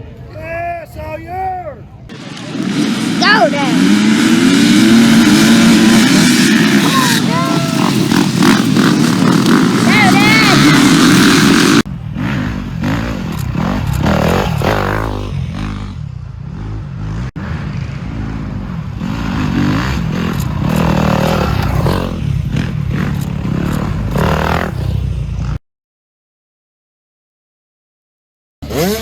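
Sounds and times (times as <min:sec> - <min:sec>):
dirt bike engines revving: 0:00.0 - 0:25.6, 0:28.6 - 0:29.0.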